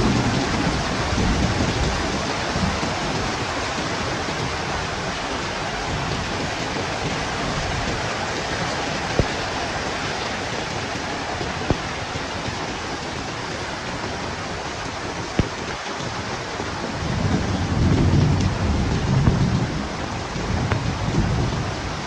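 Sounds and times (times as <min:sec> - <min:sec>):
heavy rain and wind: 0:00.0 - 0:22.0
thunder rumble: 0:00.0 - 0:22.0.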